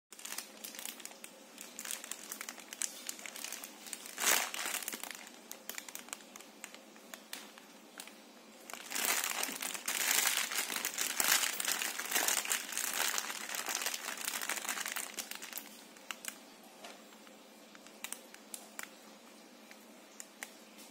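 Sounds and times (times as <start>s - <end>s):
plastic wrapping crinkling: 0.1s - 20.8s.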